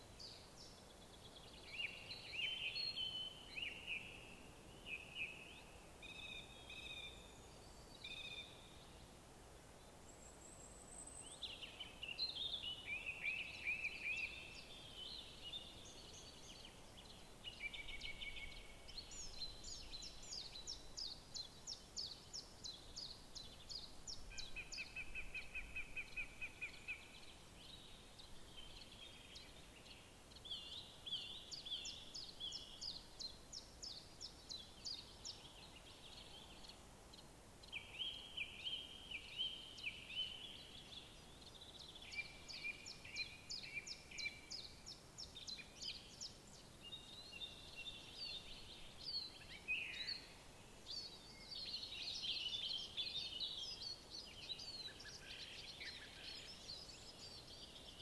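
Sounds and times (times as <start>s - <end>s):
songbirds singing: 0.0s - 9.0s, 9.8s - 58.0s
faint steady hiss: 0.0s - 58.0s.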